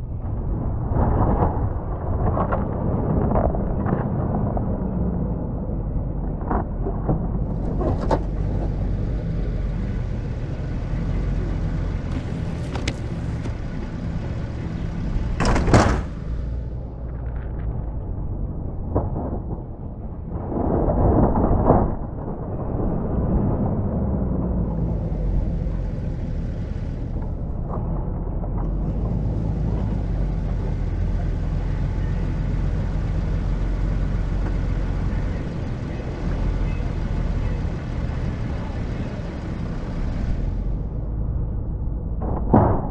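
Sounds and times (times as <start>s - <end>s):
truck engine running: 1.7s - 19.3s, 23.8s - 42.9s.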